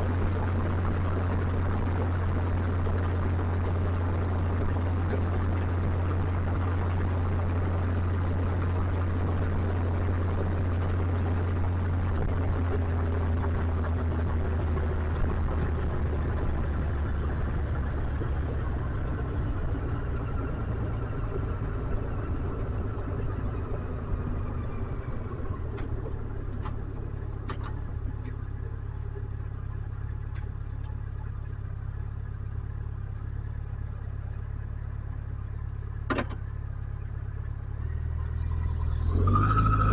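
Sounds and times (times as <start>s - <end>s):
motorcycle engine running: 0.0s - 39.1s.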